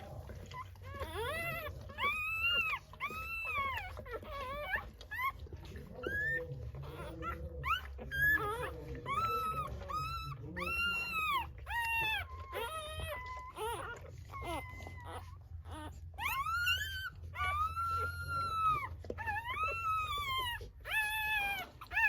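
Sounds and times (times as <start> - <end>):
puppies squealing cries: 0.0 - 22.0.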